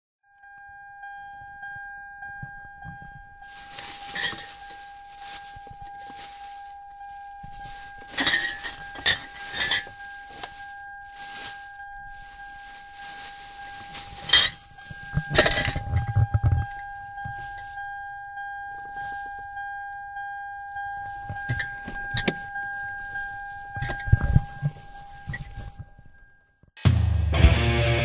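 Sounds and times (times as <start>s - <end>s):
handling noise rustling and knocks: 2.3s - 19.9s, 20.6s - 26.7s.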